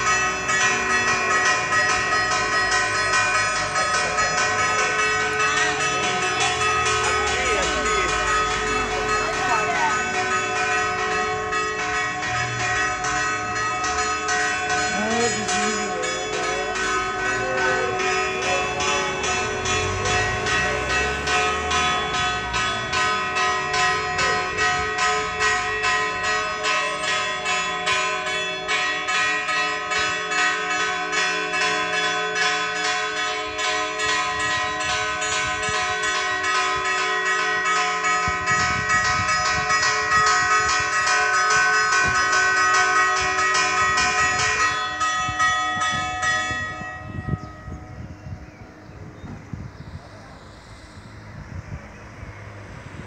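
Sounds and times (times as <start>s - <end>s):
church bells pealing: 0.0s - 53.0s.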